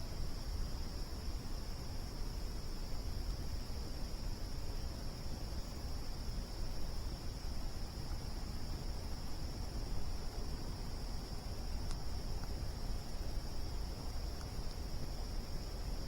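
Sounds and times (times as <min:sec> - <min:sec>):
night insects chorus: 0:00.0 - 0:16.0.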